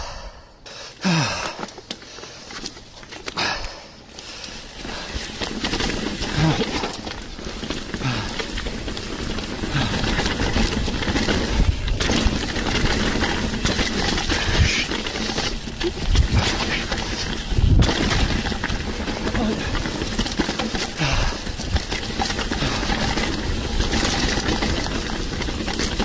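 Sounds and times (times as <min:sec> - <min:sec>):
bike rattling: 0:00.0 - 0:26.0
bike tyres rumbling over dirt: 0:00.0 - 0:26.0.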